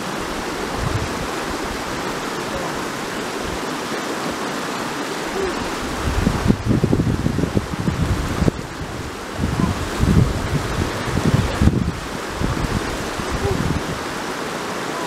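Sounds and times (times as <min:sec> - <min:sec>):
wind buffeting microphone: 0:00.0 - 0:03.7, 0:05.2 - 0:14.2
stream rushing over rocks: 0:00.0 - 0:15.0.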